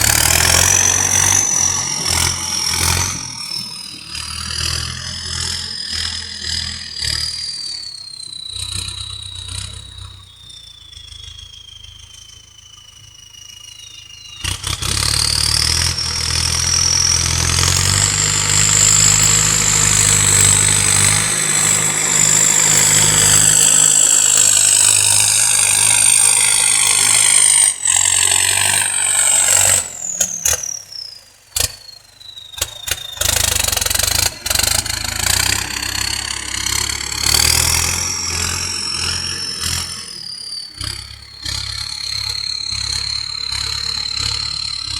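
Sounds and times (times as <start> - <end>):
tractor engine revving: 0.0 - 44.9
turbocharger whistling: 0.0 - 44.9.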